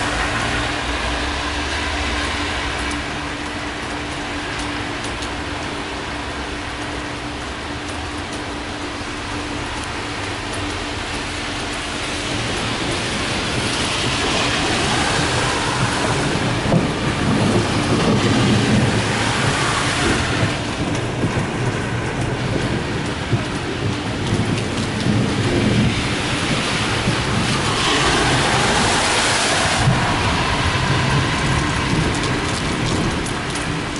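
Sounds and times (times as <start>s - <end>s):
heavy rain on street: 0.0s - 33.9s
traffic driving through water: 0.0s - 33.9s.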